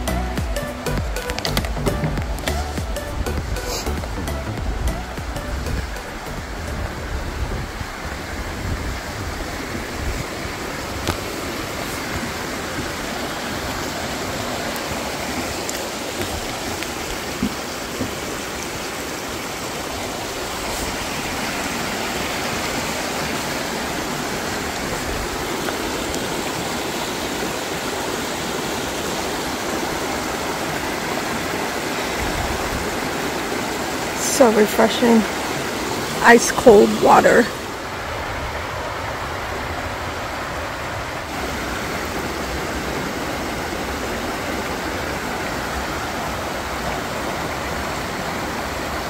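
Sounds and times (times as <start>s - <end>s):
creek rushing over rocks: 0.0s - 49.0s.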